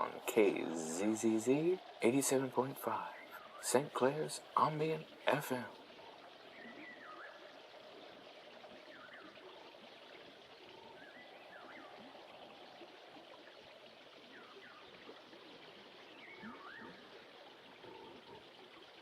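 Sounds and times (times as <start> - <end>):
faint stream running: 0.0 - 19.0.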